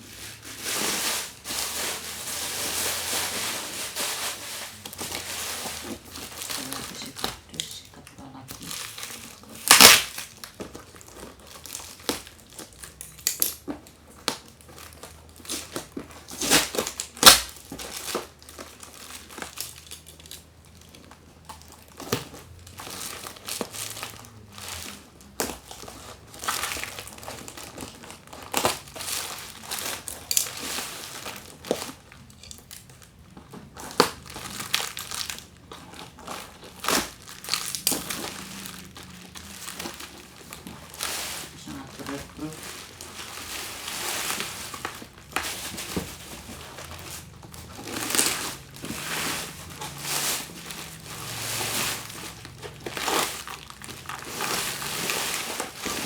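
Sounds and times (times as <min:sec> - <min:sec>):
packaging crinkling and rustling: 0:00.0 - 0:56.0.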